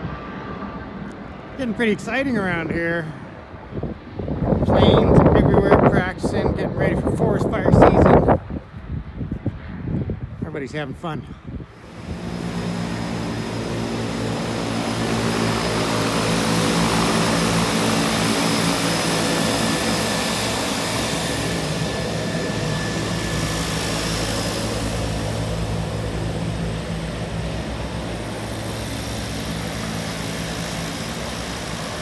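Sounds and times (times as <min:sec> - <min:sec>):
propeller airplane engine drone: 0:00.0 - 0:32.0.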